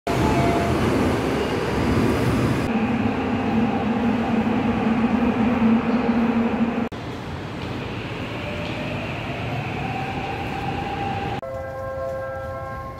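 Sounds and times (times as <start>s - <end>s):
standing train humming: 0.1s - 12.7s
train rumble: 0.1s - 12.9s.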